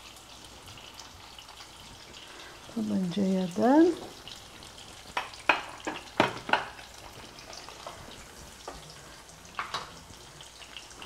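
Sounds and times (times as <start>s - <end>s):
pancakes sizzling in a frying pan: 0.0s - 11.0s.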